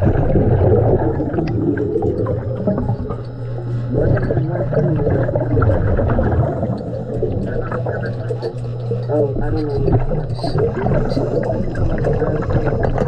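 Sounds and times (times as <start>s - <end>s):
steady low hum: 0.0s - 13.0s
underwater breathing bubbles: 0.0s - 13.0s.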